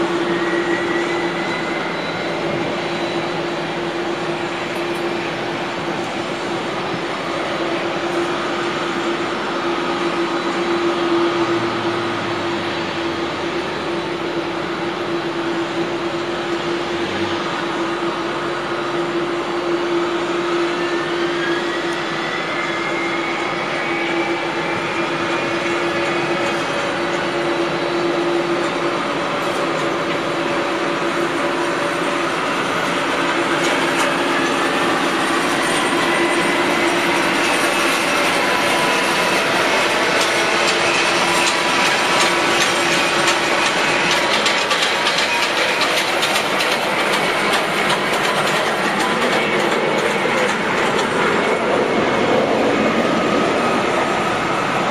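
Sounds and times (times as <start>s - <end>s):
jet engines roaring: 0.0s - 54.9s.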